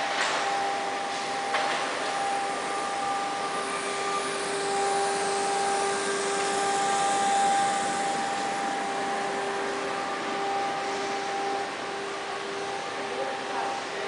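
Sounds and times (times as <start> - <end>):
machinery whirring hum: 0.0 - 14.0
steady whining tones: 0.0 - 14.0.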